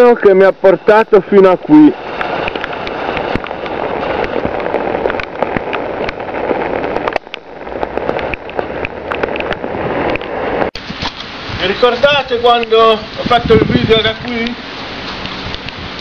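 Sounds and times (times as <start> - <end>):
steady rain hissing: 0.0 - 16.0
raindrop clicks near microphone: 2.0 - 11.4, 12.2 - 16.0.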